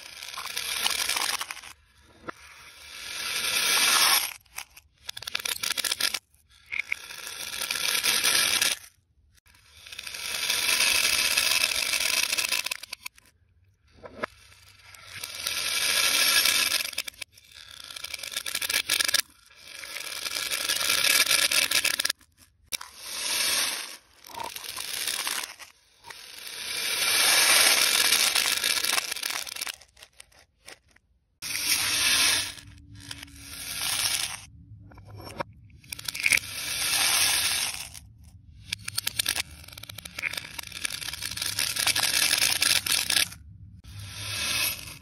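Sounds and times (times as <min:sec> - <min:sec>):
plastic beads rattling reversed: 0:00.0 - 0:13.3, 0:14.0 - 0:45.0.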